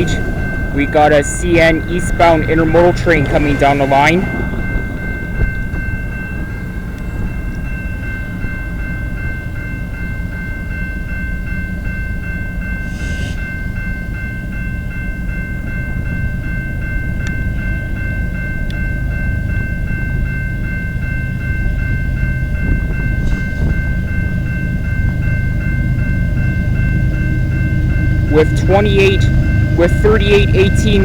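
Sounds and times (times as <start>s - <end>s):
freight train rumbling: 0.0s - 31.0s
level-crossing bell ringing: 0.0s - 31.0s.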